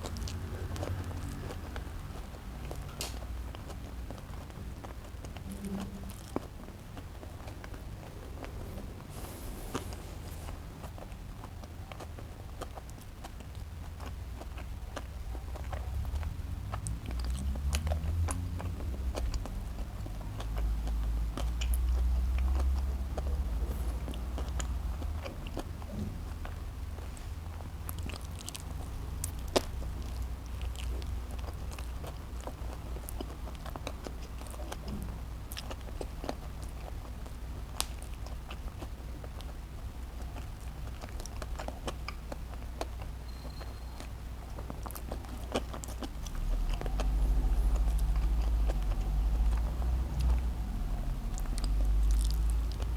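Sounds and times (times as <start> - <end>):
close chewing with mouth clicks: 0.0 - 52.9
steady low hum: 0.0 - 52.9.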